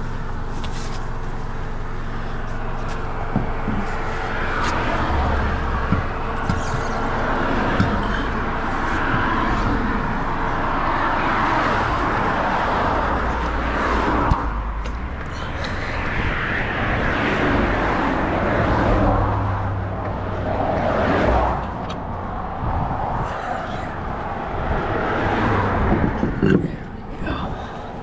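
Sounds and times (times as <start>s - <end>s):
cars passing close by: 0.0s - 28.0s.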